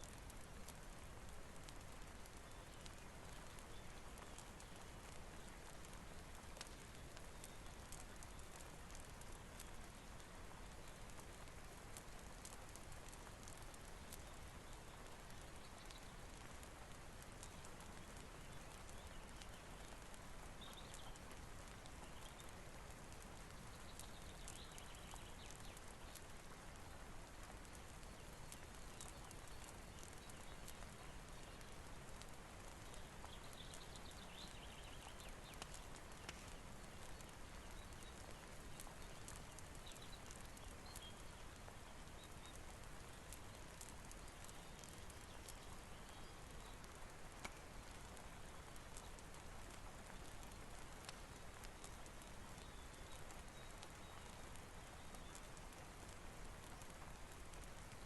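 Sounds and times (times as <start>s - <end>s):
faint rain hiss: 0.0s - 58.0s.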